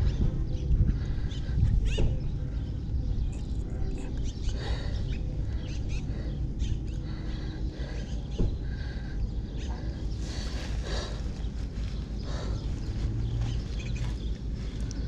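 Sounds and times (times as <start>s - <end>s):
small birds chirping: 0.0s - 15.0s
wind rumble on microphone: 0.0s - 15.0s.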